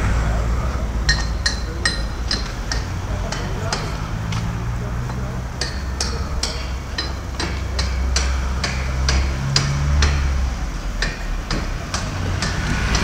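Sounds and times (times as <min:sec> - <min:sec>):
sharp regular taps: 0:00.8 - 0:13.0.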